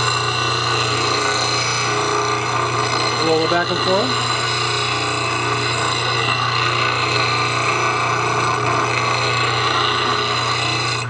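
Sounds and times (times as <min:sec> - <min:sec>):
bench grinder motor hum: 0:00.0 - 0:11.0
steel tool grinding on wheel: 0:00.0 - 0:11.0.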